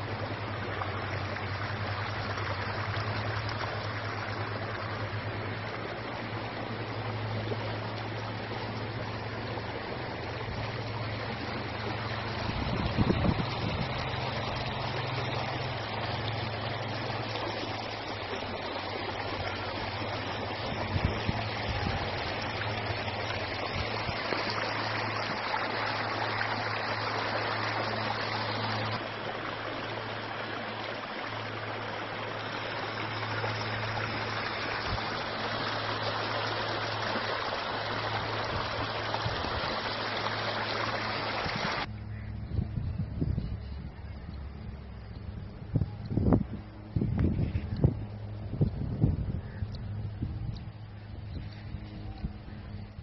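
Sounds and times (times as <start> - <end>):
low hum: 0.0 - 53.0
water flowing in channel: 0.0 - 53.0.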